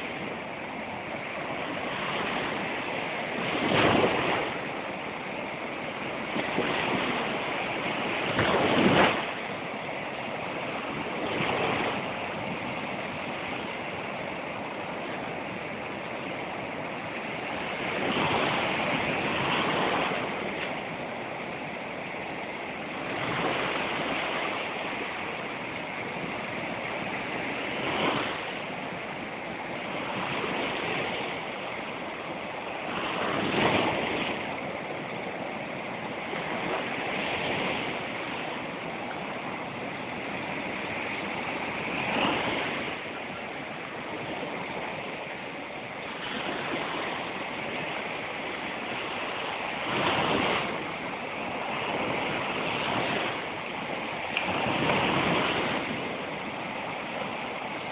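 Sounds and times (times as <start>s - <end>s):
waves breaking on sand: 0.0s - 57.9s.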